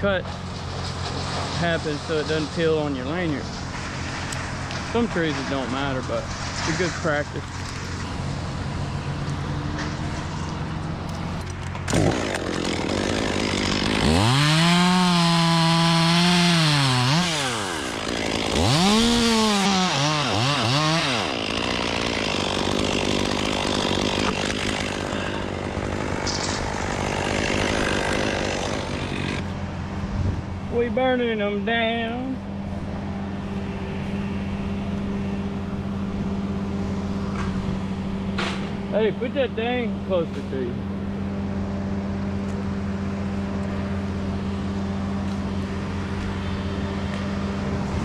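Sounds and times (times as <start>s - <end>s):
chainsaw cutting and revving: 0.0s - 29.6s, 33.9s - 48.0s.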